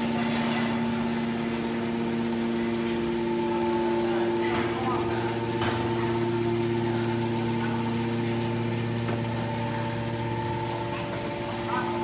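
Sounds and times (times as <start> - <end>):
hydraulic pump motor humming: 0.0 - 12.0.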